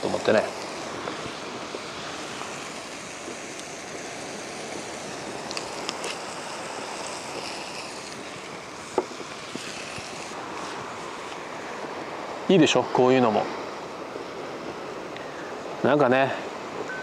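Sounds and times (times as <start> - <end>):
small waves washing onto beach: 0.0 - 17.0
wind on microphone: 0.0 - 17.0.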